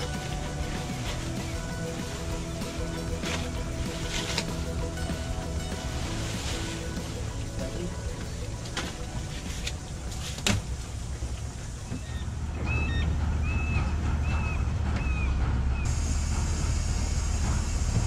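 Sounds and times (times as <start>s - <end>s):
hoist low drone: 0.0s - 18.0s.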